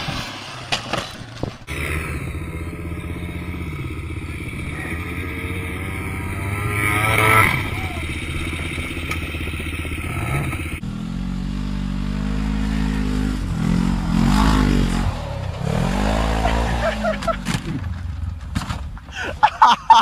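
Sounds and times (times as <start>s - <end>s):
off-road vehicle engines running: 0.0s - 20.0s
utility vehicle engine running: 1.2s - 19.1s.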